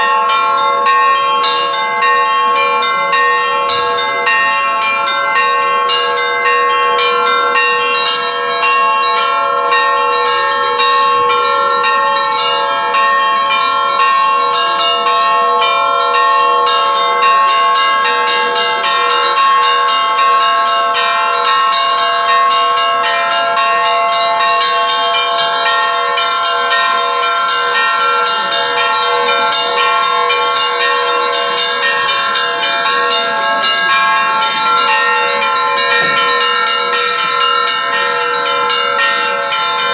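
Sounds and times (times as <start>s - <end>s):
large bells ringing: 0.0s - 39.9s
small bells struck quickly: 0.0s - 39.9s.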